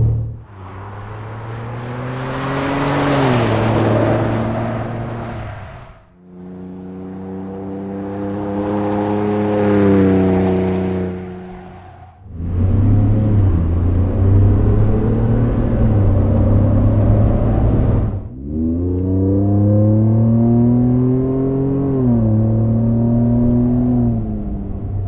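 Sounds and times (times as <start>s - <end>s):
truck driving away outside: 0.0s - 25.0s
truck engine accelerating: 0.0s - 25.0s.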